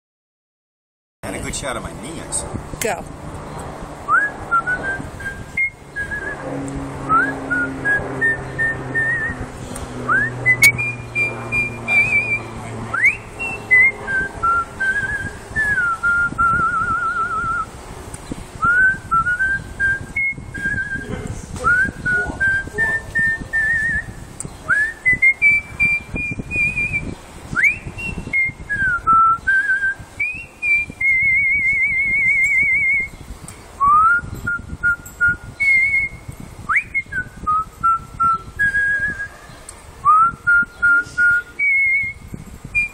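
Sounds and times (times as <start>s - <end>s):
man whistling a tune: 4.1s - 6.5s, 7.1s - 9.4s, 10.1s - 17.7s, 18.6s - 33.2s, 33.8s - 39.4s, 40.1s - 42.9s.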